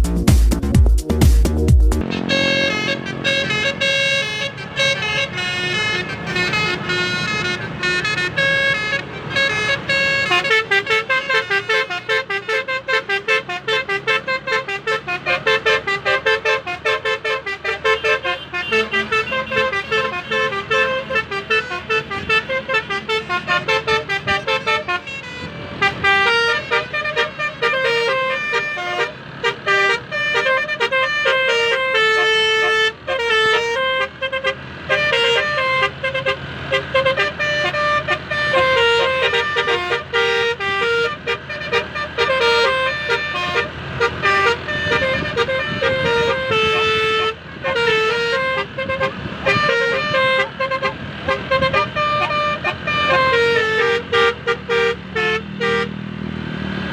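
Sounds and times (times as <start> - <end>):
musical vehicle horn tune: 0.0 - 56.0.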